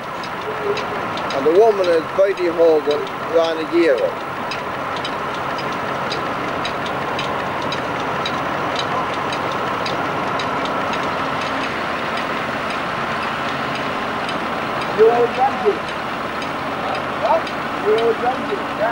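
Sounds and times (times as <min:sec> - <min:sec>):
light regular clicking: 0:00.0 - 0:18.8
tractor and threshing mill running: 0:00.0 - 0:18.9.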